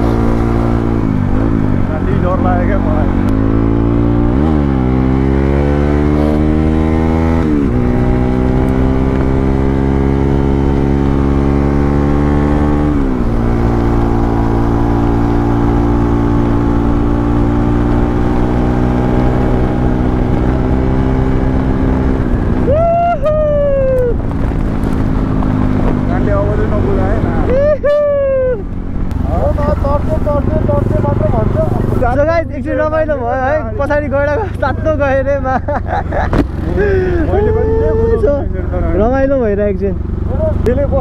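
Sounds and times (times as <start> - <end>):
motorcycle engine revving: 0.0 - 22.8, 23.4 - 41.0.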